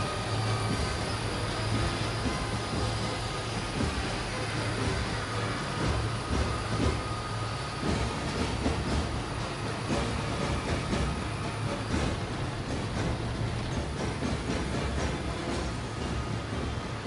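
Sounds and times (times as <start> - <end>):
heavy vehicle engine rumble: 0.0 - 17.0.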